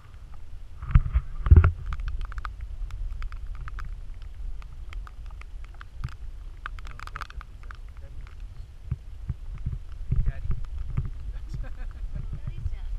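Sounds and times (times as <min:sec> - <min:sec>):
low rumble: 0:00.0 - 0:12.9.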